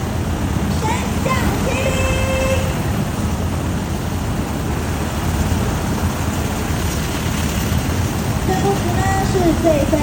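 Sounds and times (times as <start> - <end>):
helicopter hovering overhead: 0.0 - 10.0.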